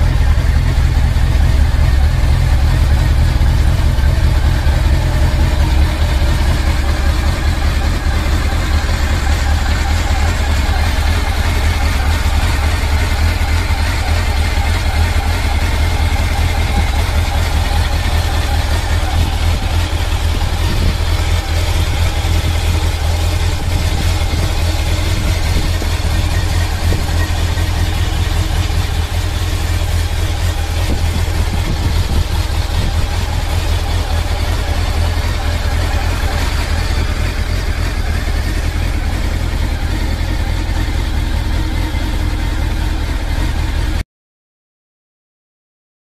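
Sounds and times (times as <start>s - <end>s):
motorcycle engine idling: 0.0s - 44.0s.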